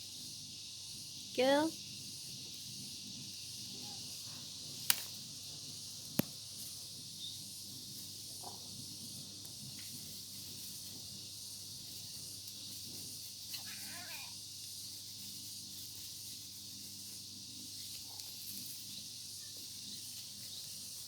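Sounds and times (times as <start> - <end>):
high-pitched background hiss: 0.0 - 21.0.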